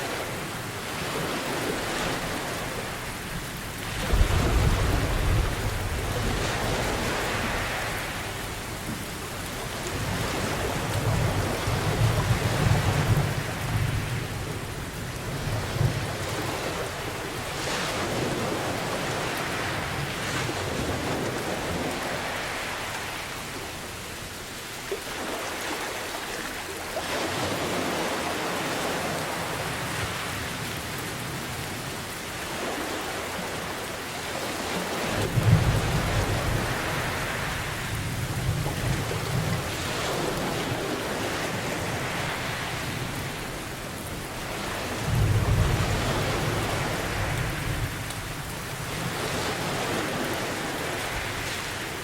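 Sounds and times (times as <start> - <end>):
heavy rain: 0.0 - 52.0
ocean waves surging: 0.0 - 52.0.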